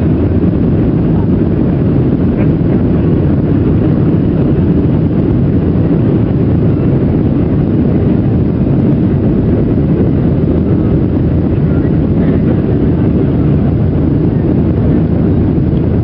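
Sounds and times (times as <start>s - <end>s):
jet engines and airflow: 0.0s - 16.0s.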